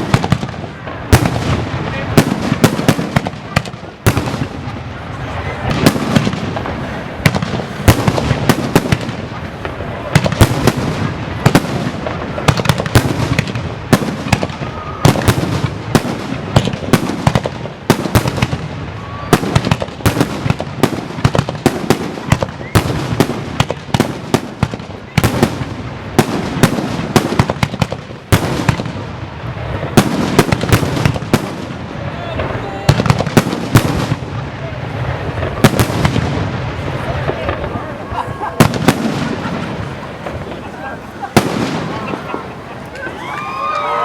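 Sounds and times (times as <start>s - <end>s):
fireworks bangs: 0.0s - 44.0s
fireworks crackle: 0.0s - 44.0s.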